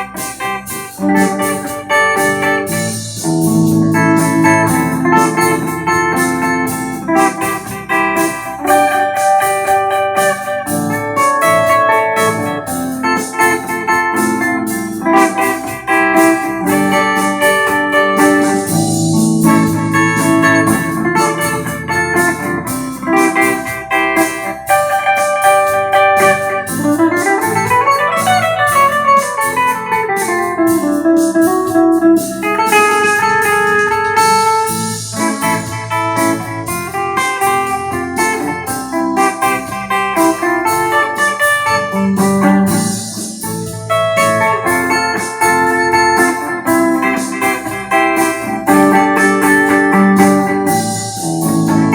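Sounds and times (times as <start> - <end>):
backing track with steady beat: 0.0 - 51.9
clean electric guitar: 0.0 - 51.9
pitch sweep: 0.0 - 51.9.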